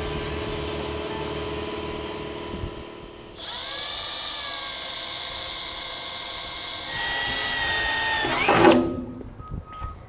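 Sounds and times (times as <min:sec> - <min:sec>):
cordless drill whining: 0:00.0 - 0:09.0.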